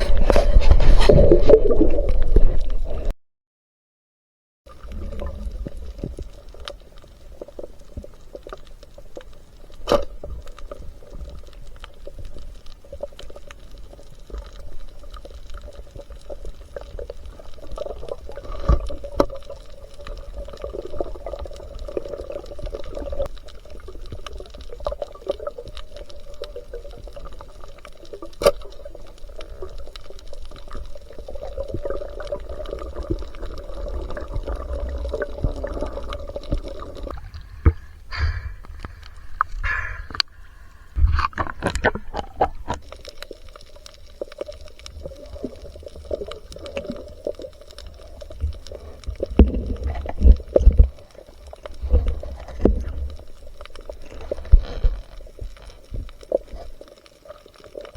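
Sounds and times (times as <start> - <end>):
muffled water sloshing and gurgling: 0.0 - 3.1, 4.7 - 57.9.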